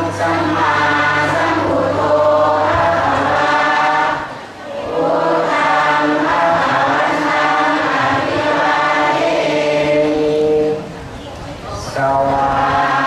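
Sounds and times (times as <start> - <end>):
many voices chanting in unison: 0.0 - 13.0.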